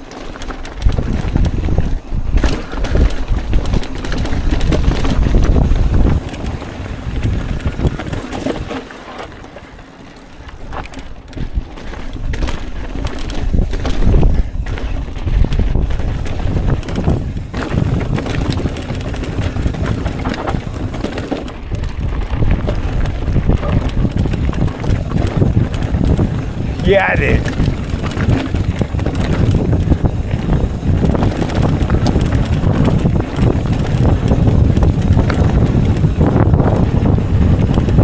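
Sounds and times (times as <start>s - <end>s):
wind buffeting microphone: 0.0s - 9.5s, 10.4s - 38.0s
mountain bike rattling over rocks: 0.0s - 38.0s.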